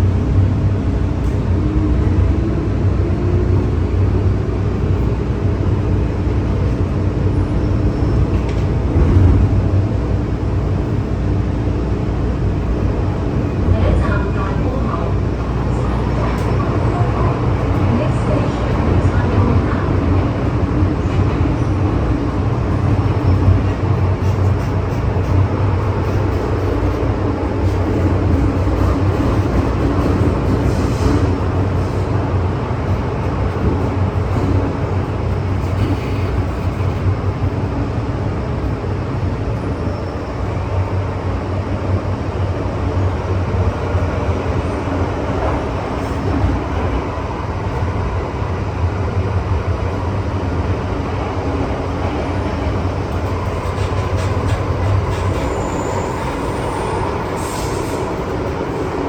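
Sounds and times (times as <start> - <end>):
faint train hum: 0.0 - 59.0
train wheels rumbling on rail: 0.0 - 59.0.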